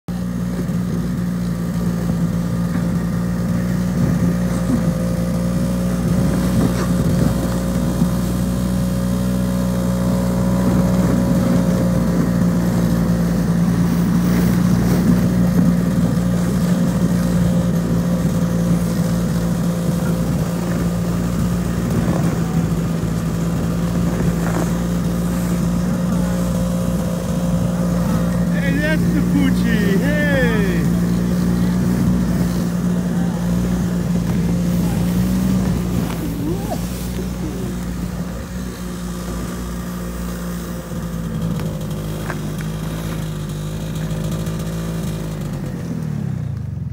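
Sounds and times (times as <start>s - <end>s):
snowmobile engine running: 0.1s - 46.9s.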